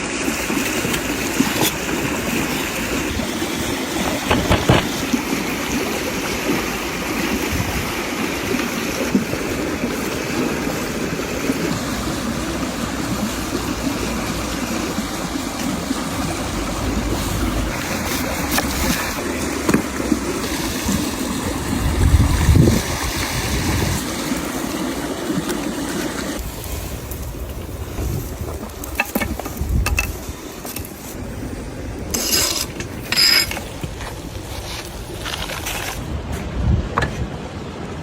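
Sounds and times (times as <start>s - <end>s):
flowing water rushing: 0.0s - 38.0s.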